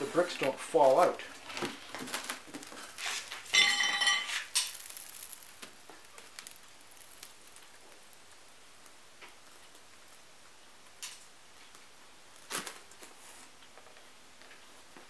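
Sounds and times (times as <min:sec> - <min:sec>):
faint ticks and rustles: 0:00.0 - 0:15.0.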